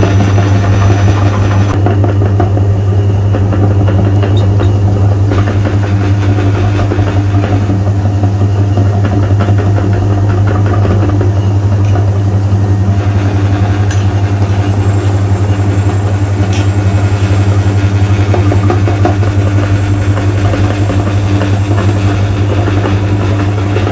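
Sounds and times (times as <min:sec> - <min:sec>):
loud mechanical drone: 0:00.0 - 0:23.9.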